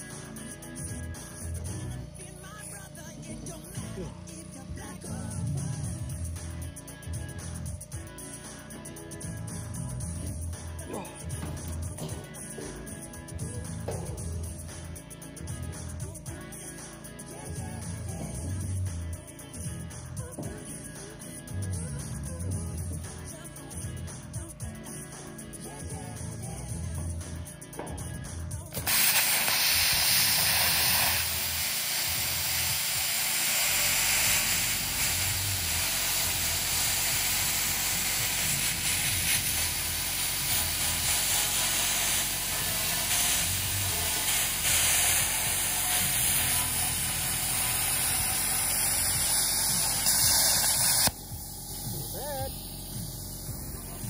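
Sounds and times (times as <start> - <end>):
plasma cutter hissing: 0.0 - 54.0.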